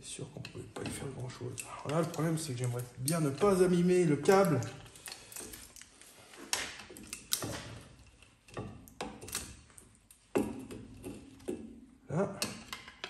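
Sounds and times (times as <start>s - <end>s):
sharp metal knocks and clicks: 0.4s - 5.7s, 6.5s - 11.8s, 12.4s - 13.0s.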